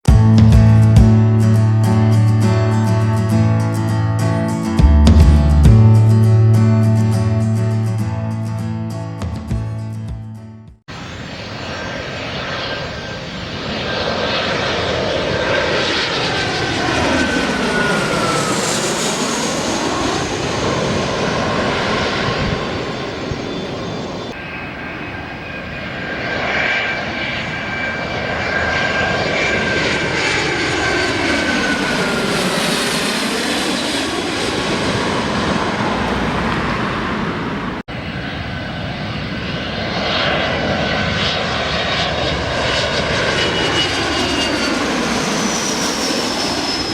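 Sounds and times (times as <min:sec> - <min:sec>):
airplane engine roar overhead: 0:00.0 - 0:09.2, 0:10.9 - 0:46.9.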